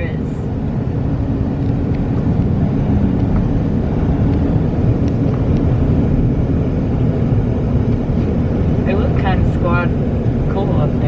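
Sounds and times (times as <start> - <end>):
truck driving rumble from cab: 0.0 - 11.0.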